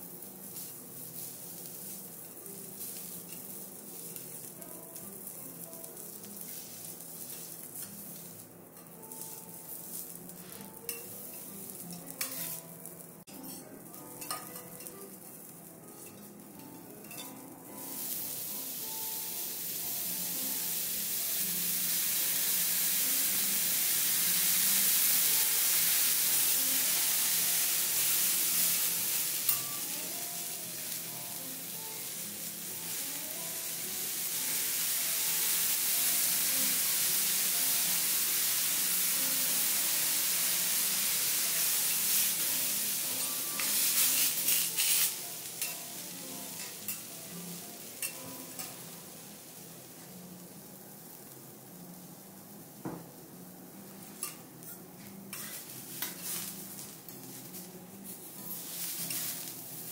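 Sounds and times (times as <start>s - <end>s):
vegetables sizzling on a griddle: 0.0s - 59.9s.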